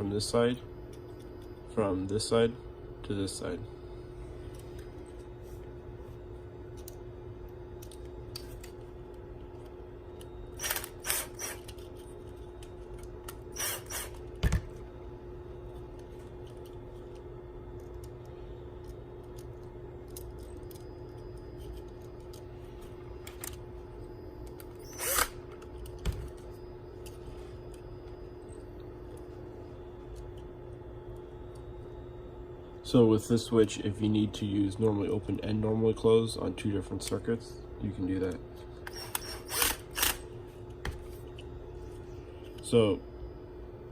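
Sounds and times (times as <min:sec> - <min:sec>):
faint hum: 0:00.0 - 0:43.9.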